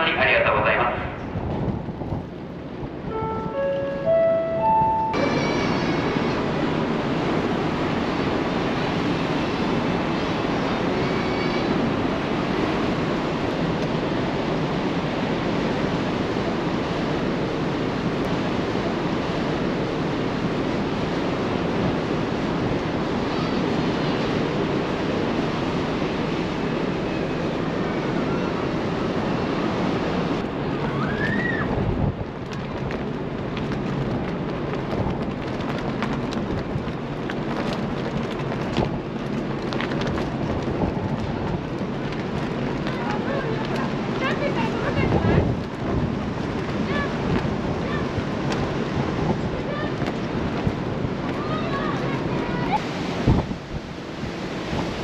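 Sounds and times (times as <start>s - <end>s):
wind and sea rushing: 0.0s - 55.0s
wind buffeting microphone: 0.9s - 55.0s.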